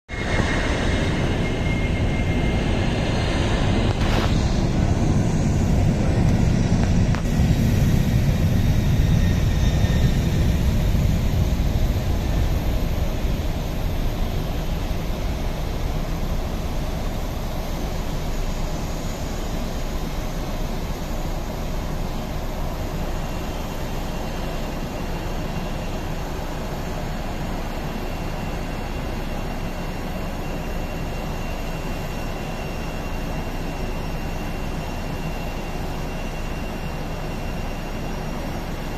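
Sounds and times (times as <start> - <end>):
distant jet engines roaring: 0.1 - 38.9.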